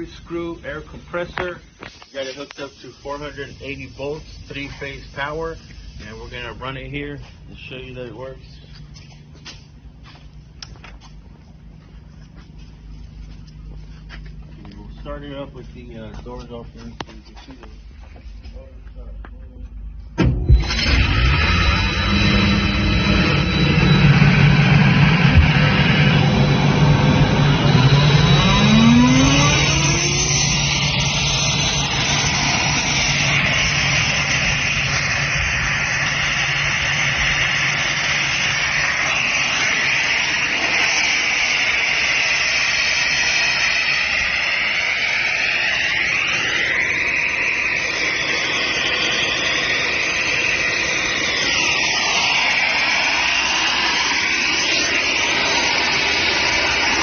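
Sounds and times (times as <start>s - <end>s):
air compressor running: 0.0s - 19.1s, 19.8s - 57.0s
rising whine: 0.0s - 57.0s.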